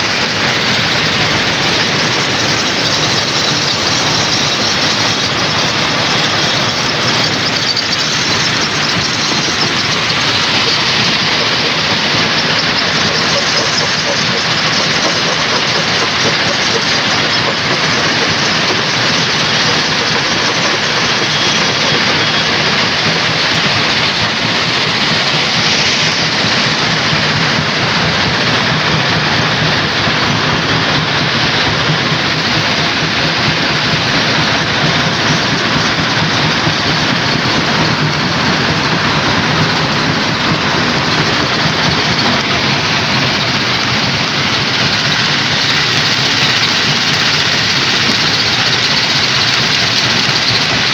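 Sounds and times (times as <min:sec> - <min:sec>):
rock crusher running: 0:00.0 - 0:50.9.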